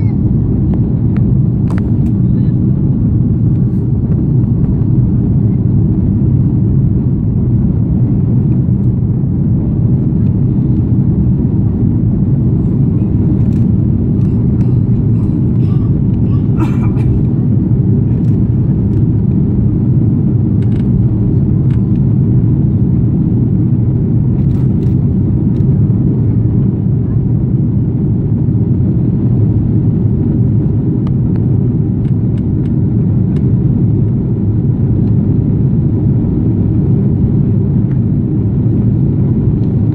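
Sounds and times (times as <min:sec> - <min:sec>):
jet engines and airflow roaring: 0:00.0 - 0:39.9.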